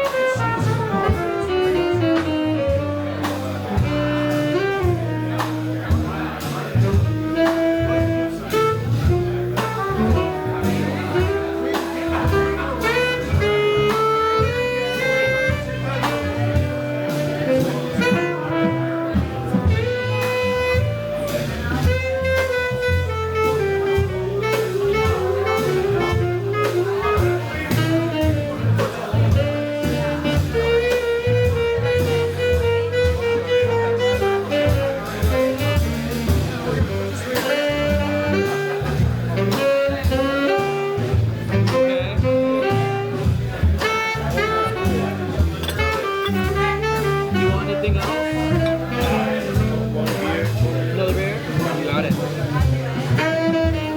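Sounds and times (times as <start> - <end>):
bass notes: 0.0 - 53.9
drum and cymbal strokes: 0.0 - 53.9
horn melody: 0.0 - 53.9.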